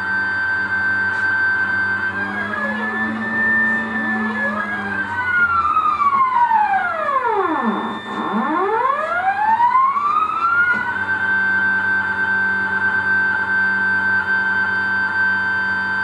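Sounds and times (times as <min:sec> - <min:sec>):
stepper motors whining: 0:00.0 - 0:15.4.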